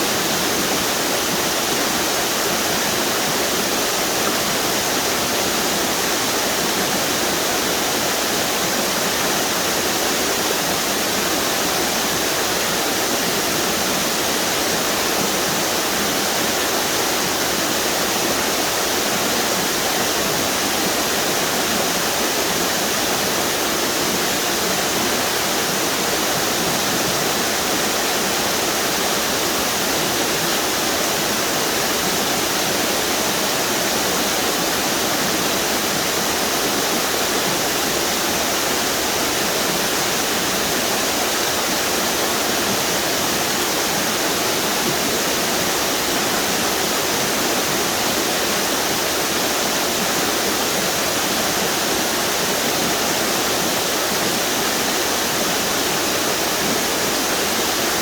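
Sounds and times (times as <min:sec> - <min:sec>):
waterfalls rushing: 0:00.0 - 0:58.0.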